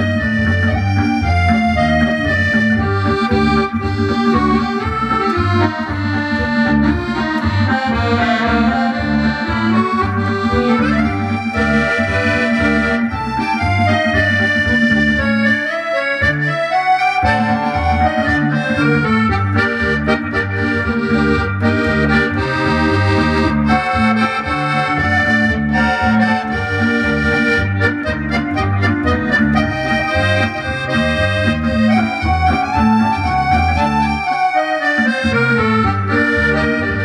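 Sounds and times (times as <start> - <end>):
accordion playing: 0.0 - 37.0.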